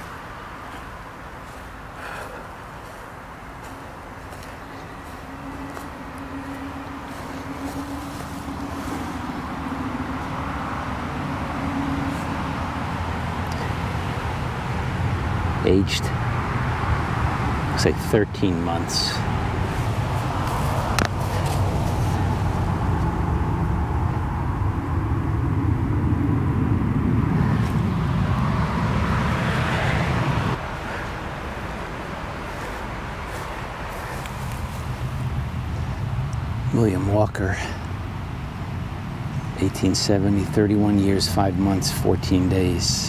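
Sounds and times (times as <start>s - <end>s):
distant traffic rumble: 0.0s - 43.0s
engine droning hum: 0.0s - 43.0s.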